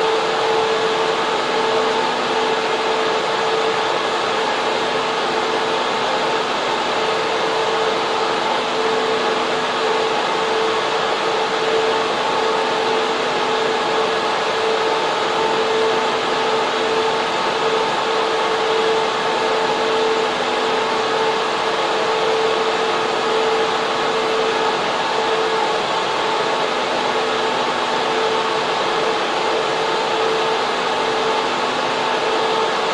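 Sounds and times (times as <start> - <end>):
mid-pitched whine: 0.0 - 32.9
server cooling fans rushing: 0.0 - 32.9.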